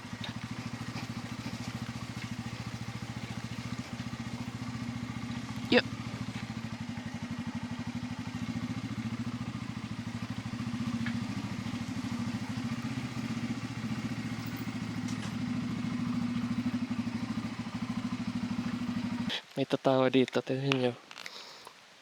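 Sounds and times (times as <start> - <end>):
motorcycle engine running: 0.0 - 19.3.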